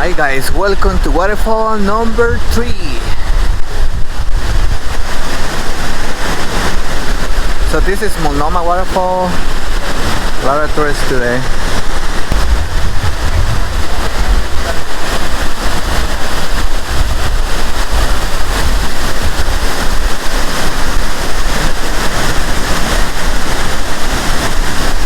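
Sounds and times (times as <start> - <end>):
deep rumble: 0.0 - 25.0
waterfall rushing: 0.0 - 25.0.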